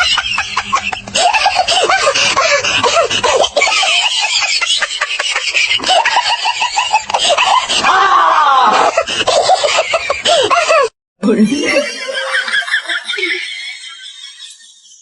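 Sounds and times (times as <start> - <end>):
laughter in quick bursts: 0.0 - 7.9, 8.8 - 10.9, 11.5 - 15.0.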